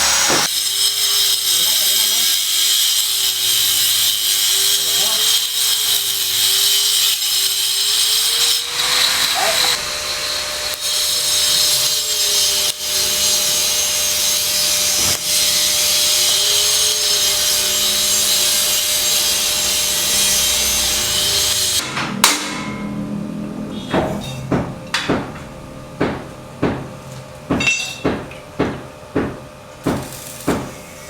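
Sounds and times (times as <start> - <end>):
power saw cutting: 0.0 - 25.1, 29.9 - 31.0.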